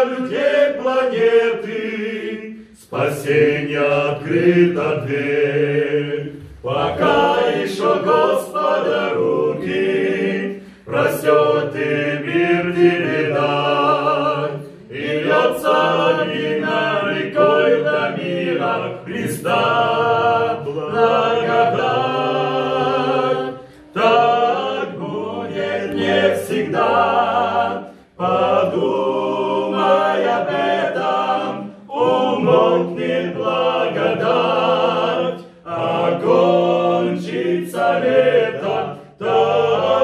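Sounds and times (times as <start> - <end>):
men's choir singing a hymn: 0.0 - 40.0.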